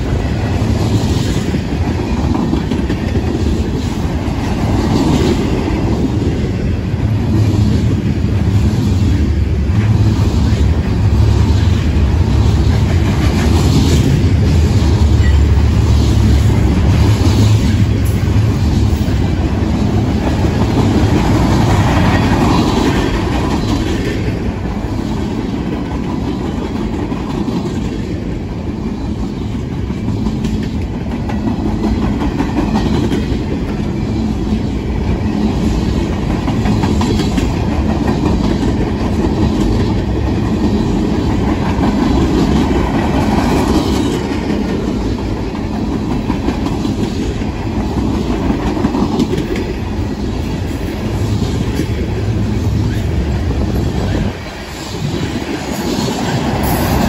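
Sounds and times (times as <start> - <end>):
freight train rumbling past: 0.0 - 57.0
wheels clacking on rails: 0.0 - 57.0.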